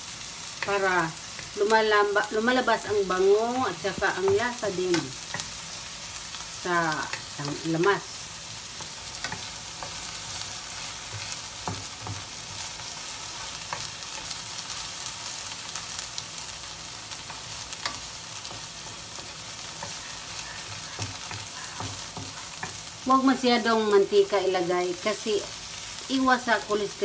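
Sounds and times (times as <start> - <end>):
onion and tomato sizzling: 0.0 - 27.0.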